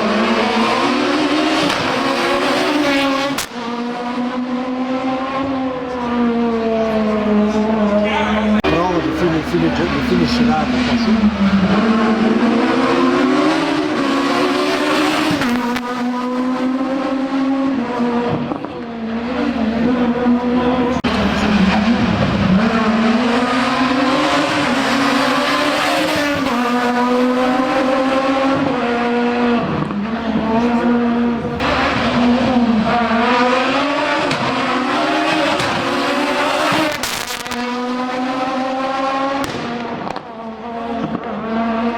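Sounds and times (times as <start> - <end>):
rally car engine revving: 0.0 - 41.9.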